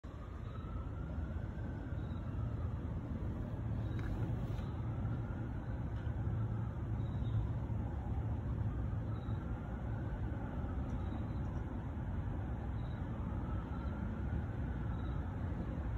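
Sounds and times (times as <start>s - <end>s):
distant road traffic rumble: 0.0s - 15.9s.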